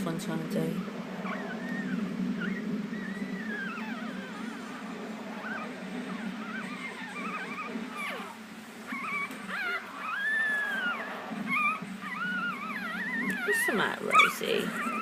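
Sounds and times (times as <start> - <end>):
puppy whimpering and squealing: 0.6 - 15.0.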